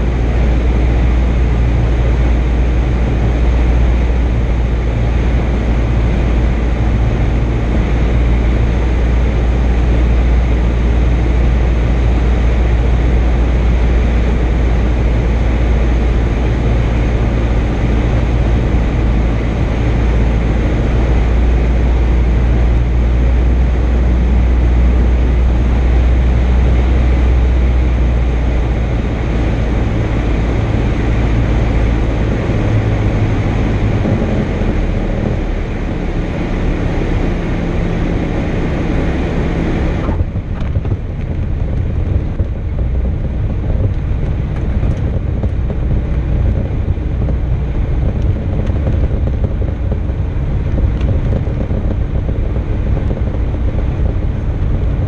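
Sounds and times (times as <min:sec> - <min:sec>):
aircraft engine and propeller droning: 0:00.0 - 0:55.0.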